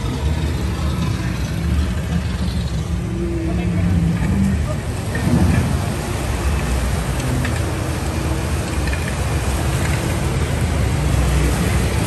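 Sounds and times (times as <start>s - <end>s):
moving vehicle rumble: 0.0s - 12.0s.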